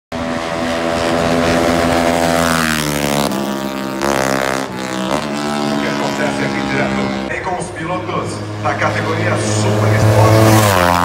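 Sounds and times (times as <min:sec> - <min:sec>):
racing motorcycle engine revving: 0:00.1 - 0:11.0.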